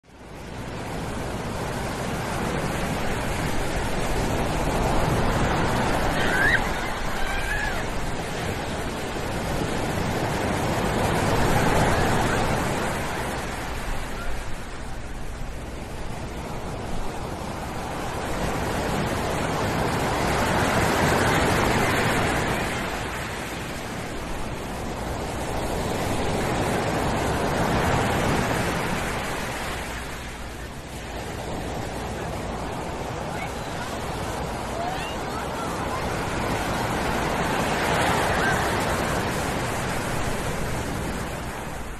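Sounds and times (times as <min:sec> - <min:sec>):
waves breaking on a beach: 0:00.0 - 0:41.9.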